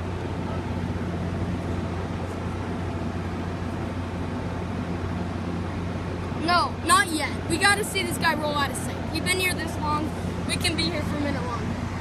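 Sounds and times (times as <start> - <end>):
diesel locomotives idling: 0.0 - 12.0.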